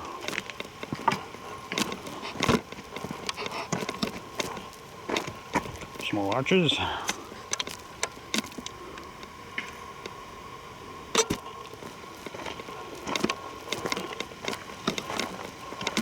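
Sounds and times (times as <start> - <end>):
footsteps on rocky trail: 0.0 - 10.5, 11.1 - 16.0.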